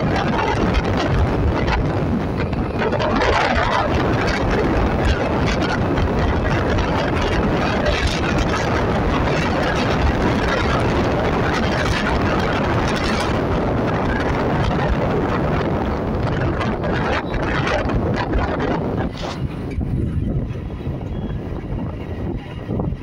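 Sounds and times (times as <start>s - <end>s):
engine noise: 0.0s - 23.0s
tyre noise on road: 0.0s - 23.0s
wind buffeting microphone: 0.0s - 23.0s.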